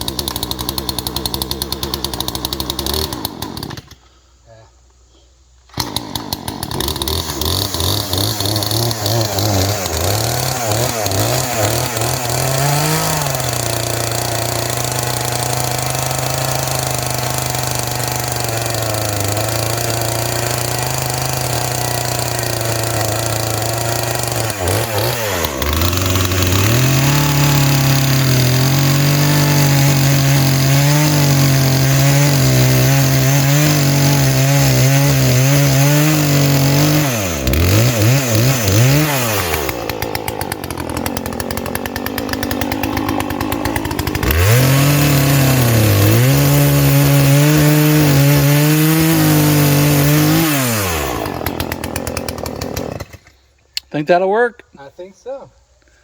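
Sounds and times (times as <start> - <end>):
chainsaw cutting wood: 0.0 - 4.0, 5.6 - 53.9.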